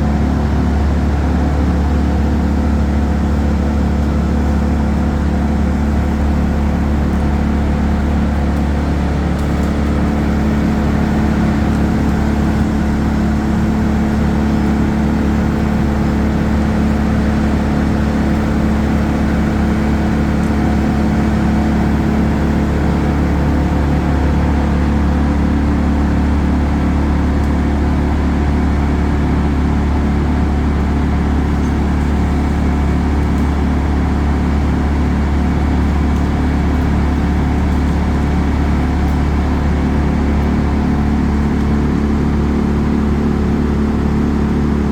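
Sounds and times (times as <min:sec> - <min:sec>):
large engine humming: 0:00.0 - 0:44.9.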